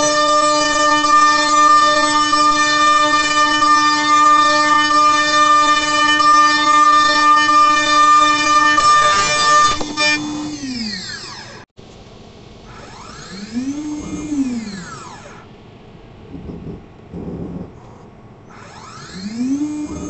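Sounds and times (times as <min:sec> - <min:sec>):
stepper motor whining: 0:00.0 - 0:11.7, 0:12.5 - 0:20.0.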